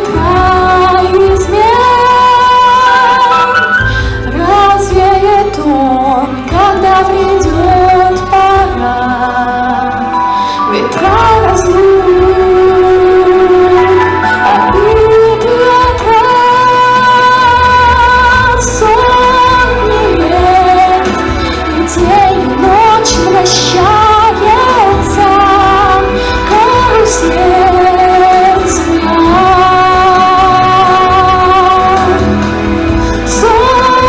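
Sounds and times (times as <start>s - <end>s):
song with singing voices: 0.0s - 34.0s.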